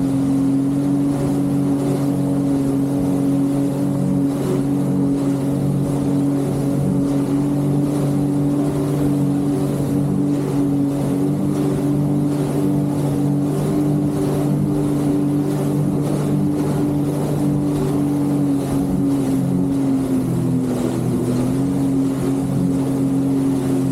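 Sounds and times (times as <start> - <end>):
jet ski engine running: 0.0 - 23.9
rushing water: 0.0 - 23.9.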